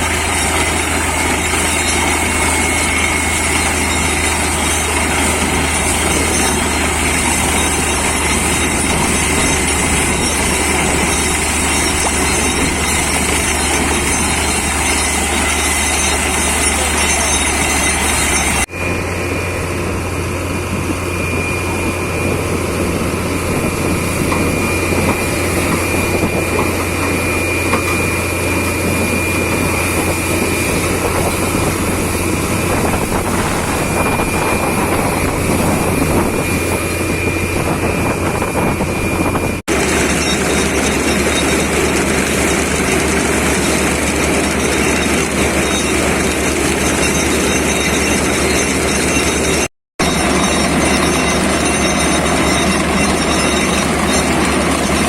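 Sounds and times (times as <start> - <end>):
drilling rig mechanical drone: 0.0 - 55.0
thin steady whine: 0.0 - 55.0.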